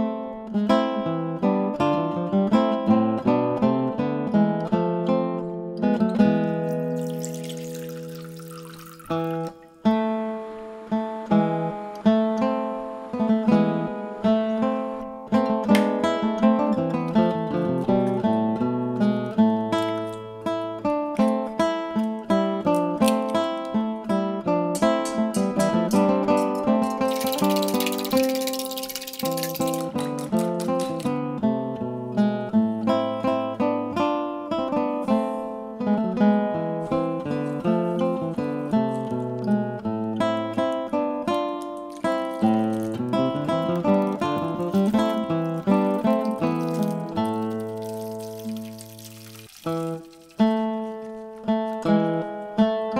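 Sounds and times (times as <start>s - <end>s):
acoustic guitar chords: 0.0s - 8.4s, 9.0s - 28.2s, 29.8s - 49.1s, 49.7s - 52.9s.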